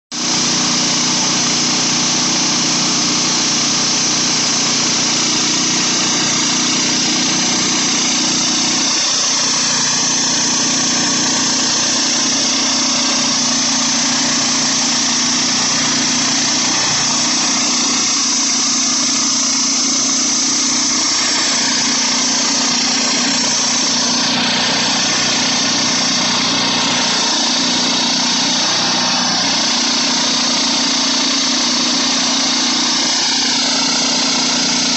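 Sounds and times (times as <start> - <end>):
sawmill engine hum: 0.1 - 34.9
sawmill loud hiss: 0.1 - 34.9.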